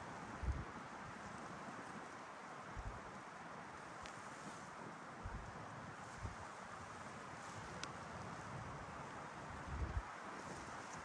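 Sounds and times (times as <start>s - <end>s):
wind through pine needles: 0.0s - 11.0s.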